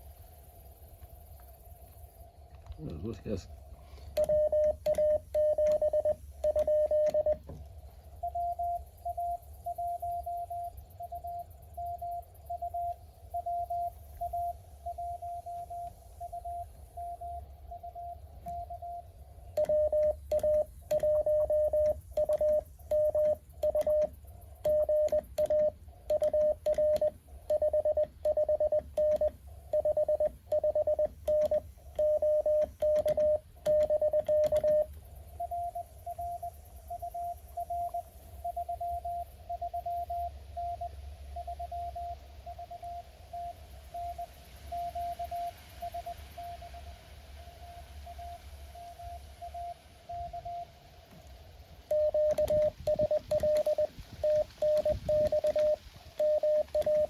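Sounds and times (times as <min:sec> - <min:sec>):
loud morse code tone: 0:03.0 - 0:07.6, 0:08.2 - 0:50.7, 0:51.8 - 0:57.0.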